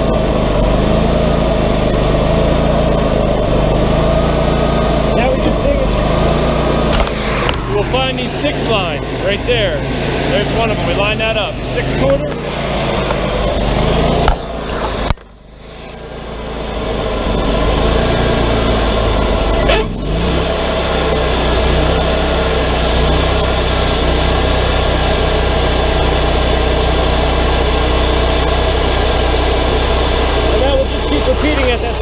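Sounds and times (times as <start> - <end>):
band sawmill running: 0.0 - 32.0.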